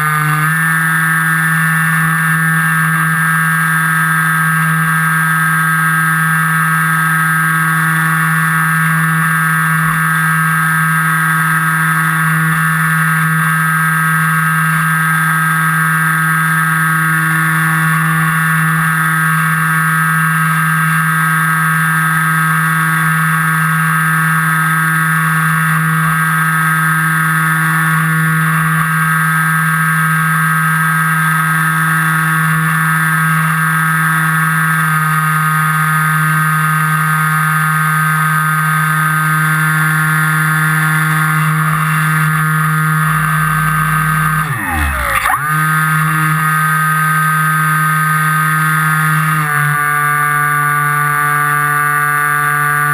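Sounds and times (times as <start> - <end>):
model aircraft motor droning: 0.0 - 52.9.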